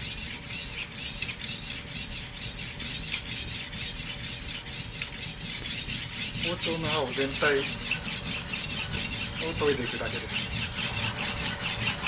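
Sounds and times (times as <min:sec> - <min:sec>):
knife scraping on whetstone: 0:00.0 - 0:12.0.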